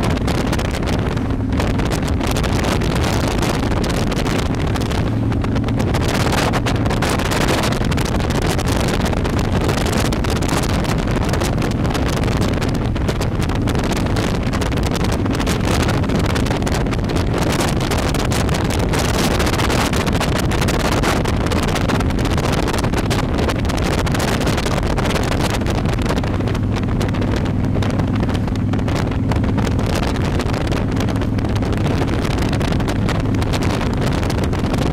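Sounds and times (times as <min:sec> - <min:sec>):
motorcycle engine cruising: 0:00.0 - 0:34.9
wind rush on microphone: 0:00.0 - 0:34.9.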